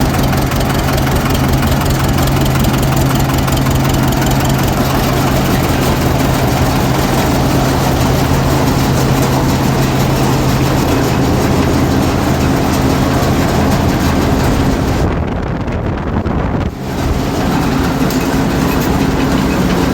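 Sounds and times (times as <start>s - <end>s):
low engine hum: 0.0s - 19.9s
thresher mechanical din: 0.0s - 19.9s.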